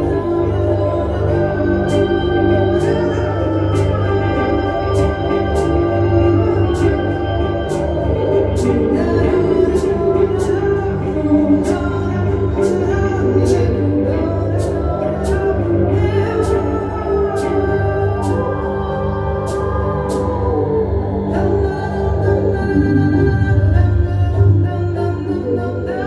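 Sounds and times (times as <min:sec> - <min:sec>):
droning held tones: 0:00.0 - 0:26.0.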